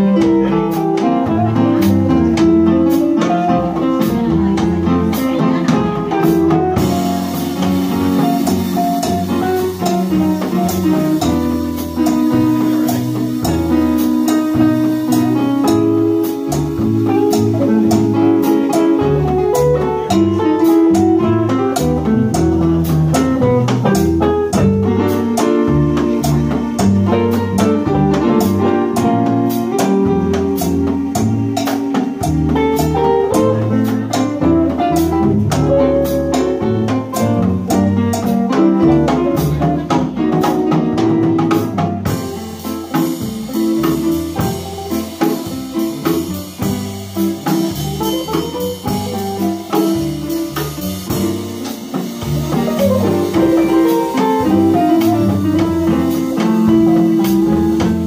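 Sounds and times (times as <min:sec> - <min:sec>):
drum kit: 0:00.0 - 0:58.0
guitar: 0:00.0 - 0:58.0
piano accordion: 0:00.0 - 0:58.0.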